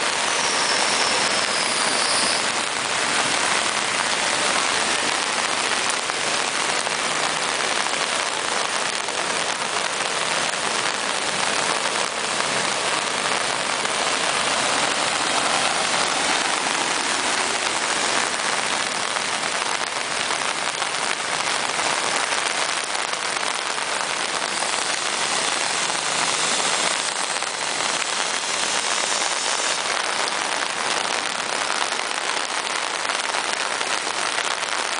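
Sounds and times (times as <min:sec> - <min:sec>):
heavy rain on flooded street: 0:00.0 - 0:34.9.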